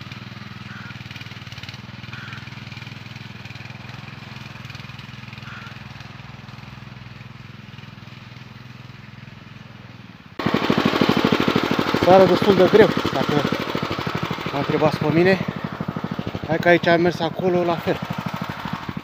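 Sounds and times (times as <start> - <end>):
distant motor hoe engine: 0.0 - 19.0.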